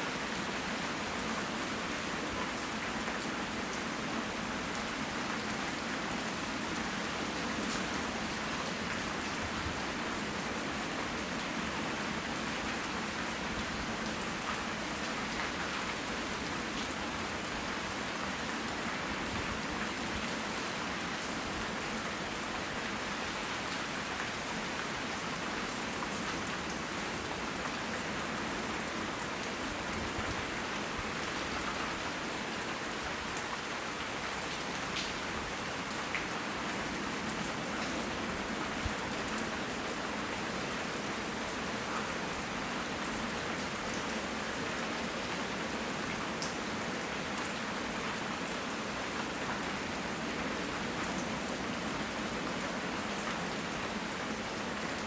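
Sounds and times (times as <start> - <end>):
rain pattering: 0.2 - 55.0.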